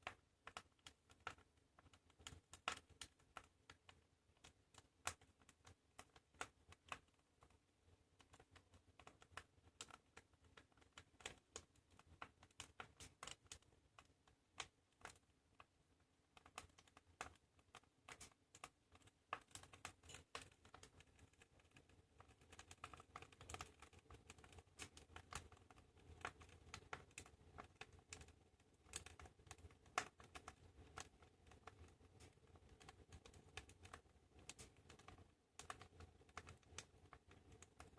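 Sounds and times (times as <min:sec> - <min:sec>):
fireplace fire crackling: 0:00.0 - 0:37.9.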